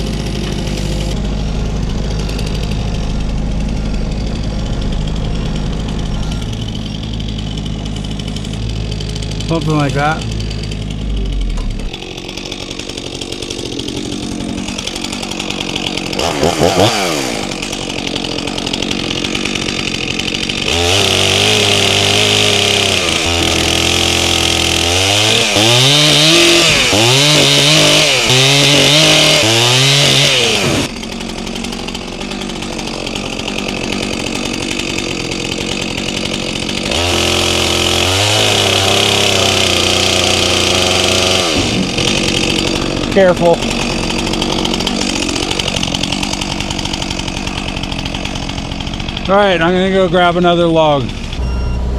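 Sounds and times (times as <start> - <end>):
chainsaw cutting through log: 0.0 - 51.9
chainsaw idling and revving: 0.0 - 51.9.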